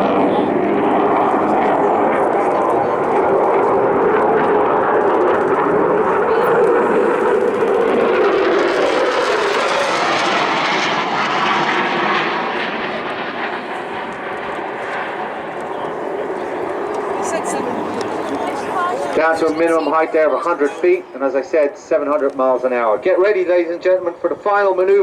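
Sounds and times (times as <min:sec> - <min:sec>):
jet engines in afterburner: 0:00.0 - 0:25.0.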